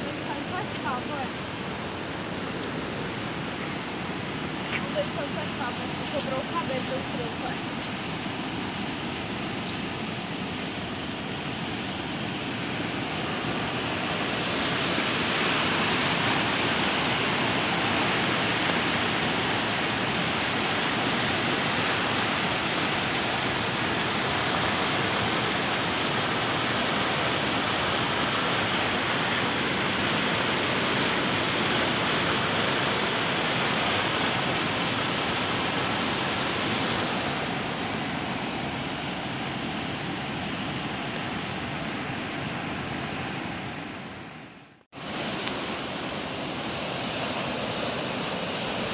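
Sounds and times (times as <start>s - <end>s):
river rushing and churning: 0.0s - 48.9s.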